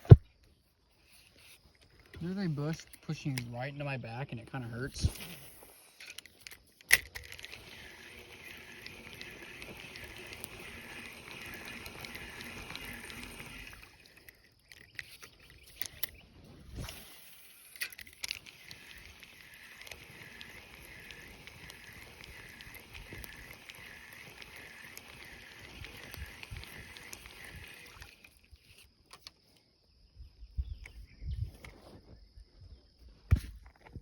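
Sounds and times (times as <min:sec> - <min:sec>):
insect chorus pulsing: 0:01.0 - 0:31.4.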